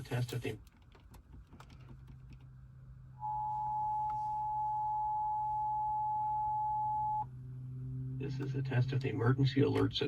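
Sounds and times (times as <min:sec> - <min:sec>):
faint low hum: 0:00.0 - 0:09.9.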